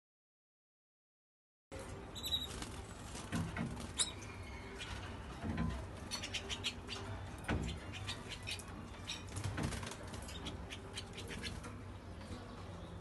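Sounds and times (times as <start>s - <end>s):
birds fluttering in cage: 1.8s - 12.9s.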